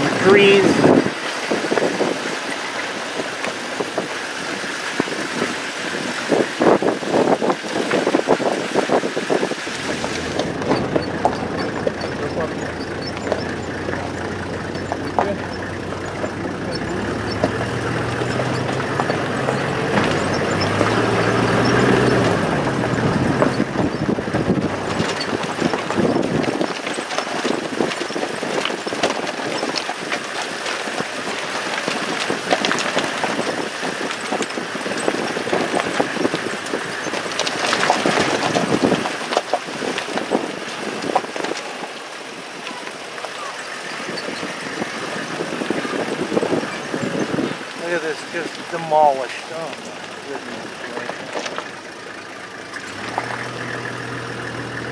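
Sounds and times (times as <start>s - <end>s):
low engine hum: 0.0s - 54.9s
road noise: 0.0s - 54.9s
small rattles and knocks: 0.0s - 54.9s.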